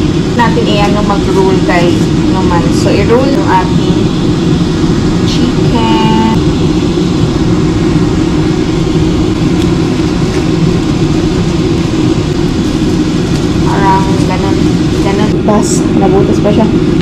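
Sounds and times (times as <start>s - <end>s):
loud low rumble: 0.0s - 17.0s.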